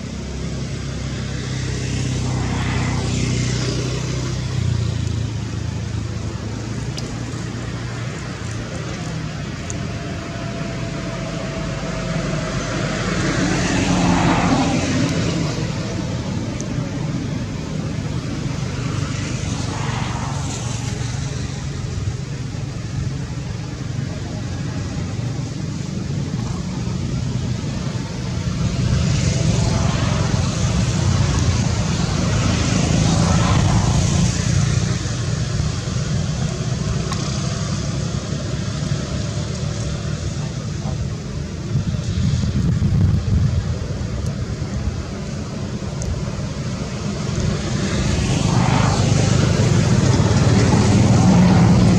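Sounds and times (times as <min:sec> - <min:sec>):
low rumble of traffic: 0:00.0 - 0:51.9
vehicle passing by: 0:00.0 - 0:51.9.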